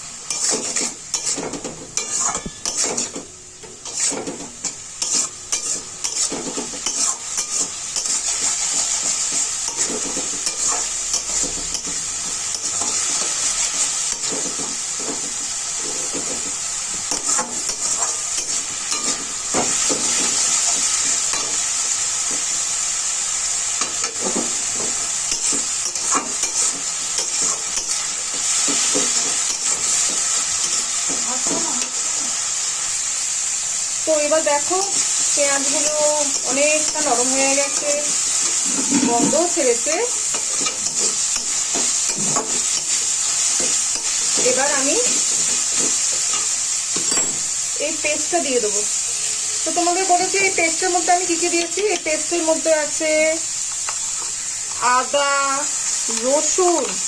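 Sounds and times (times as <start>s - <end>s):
spatula scraping pan: 0.0s - 32.5s, 34.1s - 47.6s
onions sizzling in oil: 0.0s - 57.0s.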